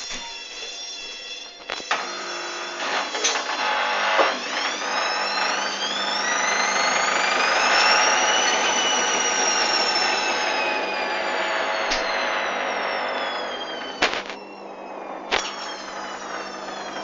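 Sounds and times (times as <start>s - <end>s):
washing machine motor whining: 0.0s - 17.0s.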